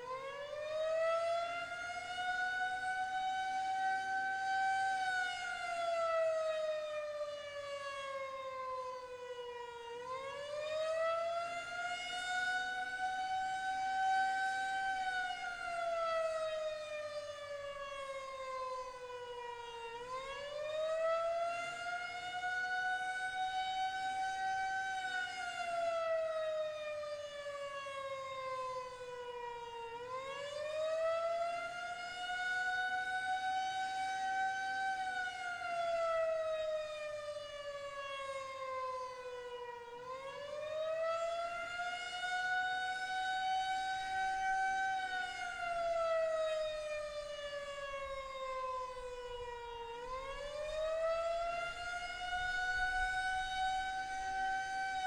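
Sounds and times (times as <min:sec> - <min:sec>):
warning siren rising and falling: 0:00.0 - 0:55.0.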